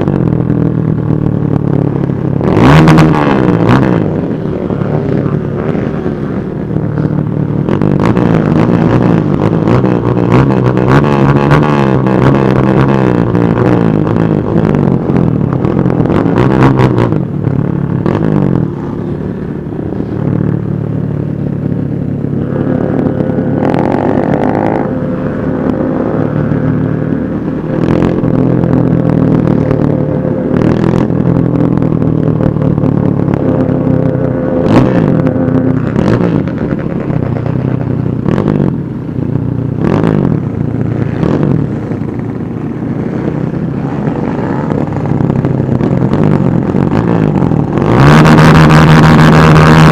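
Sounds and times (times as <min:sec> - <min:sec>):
motorcycle engines droning: 0:00.0 - 0:49.9
motorcycle throttle revs: 0:00.0 - 0:49.9.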